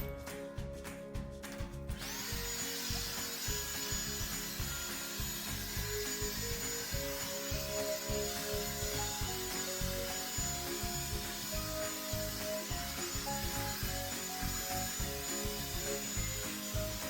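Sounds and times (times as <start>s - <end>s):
hair dryer air hiss: 2.0s - 17.0s
high motor whine: 2.0s - 17.0s.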